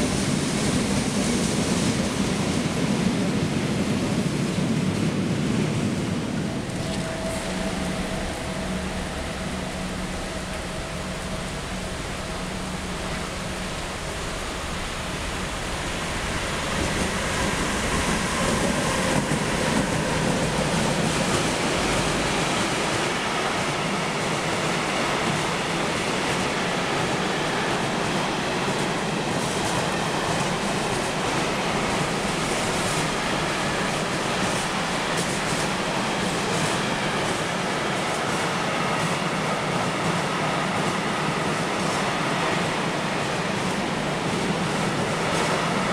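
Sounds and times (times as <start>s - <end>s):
train rolling past on track: 0.0s - 45.9s.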